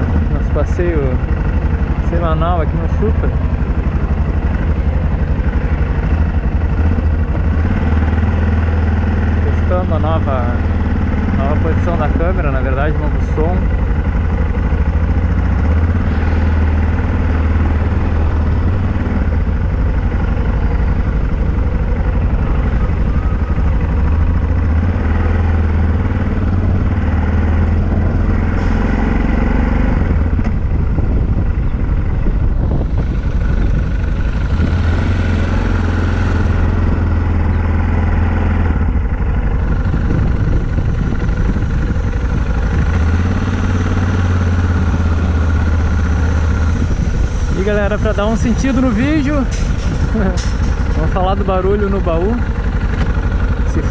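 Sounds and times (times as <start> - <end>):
motorcycle engine rumbling: 0.0 - 53.9.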